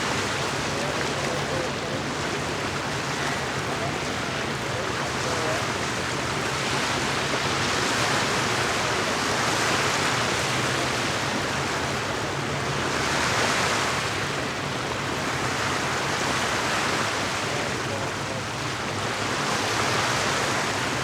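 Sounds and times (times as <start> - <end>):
waves washing against shore: 0.0 - 21.0.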